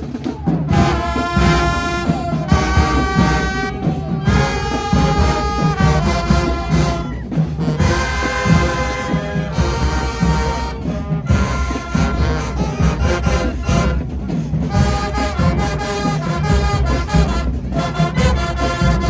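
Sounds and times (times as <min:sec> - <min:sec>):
brass horns: 0:00.0 - 0:19.0
steady drum beat: 0:00.0 - 0:19.0.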